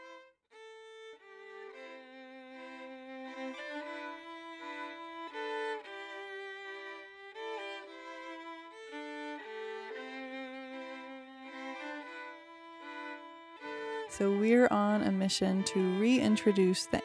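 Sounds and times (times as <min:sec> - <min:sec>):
bowed strings music: 0:00.0 - 0:17.0.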